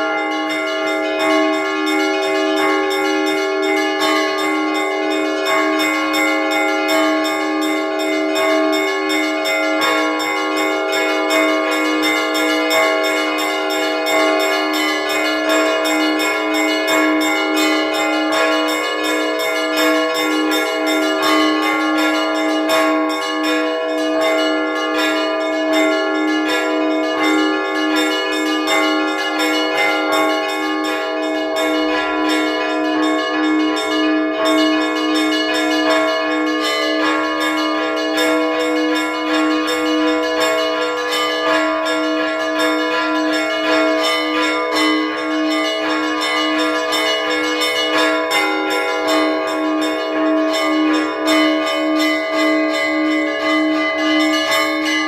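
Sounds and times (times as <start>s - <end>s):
church bells pealing: 0.0s - 55.0s
deep bell beating: 0.0s - 55.0s.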